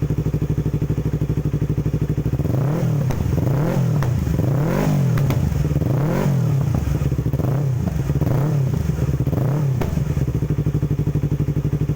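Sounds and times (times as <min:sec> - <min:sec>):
motorcycle engine revving and idling: 0:00.0 - 0:11.9.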